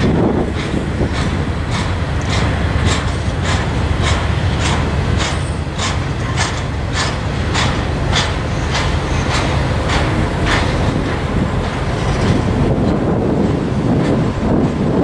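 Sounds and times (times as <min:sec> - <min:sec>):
train low rumble: 0:00.0 - 0:15.0
train wheels clicking on track: 0:00.0 - 0:15.0.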